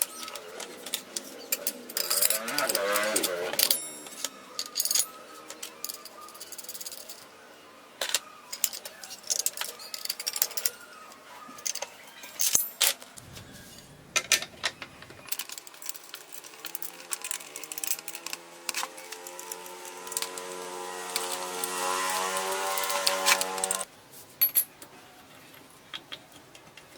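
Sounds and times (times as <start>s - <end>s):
metal parts clicking and clinking: 0.0s - 7.3s, 8.0s - 10.9s, 11.6s - 24.8s.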